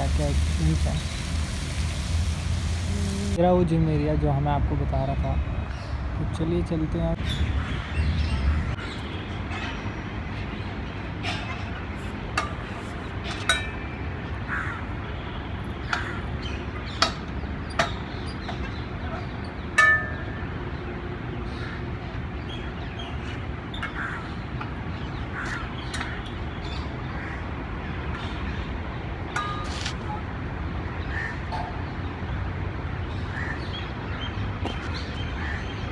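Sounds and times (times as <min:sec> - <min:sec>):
birds calling: 0:00.1 - 0:03.4, 0:07.1 - 0:30.2, 0:30.8 - 0:35.9.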